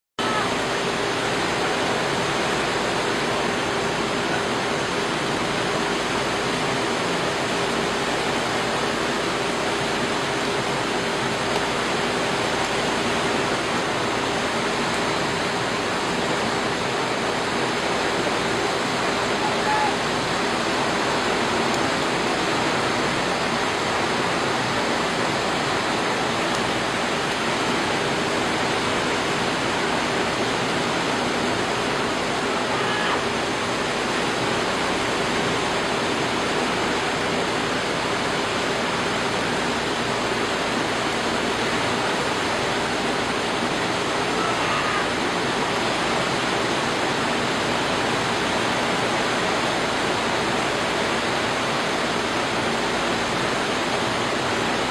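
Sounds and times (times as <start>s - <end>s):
rough sea water rushing: 0.2s - 54.9s.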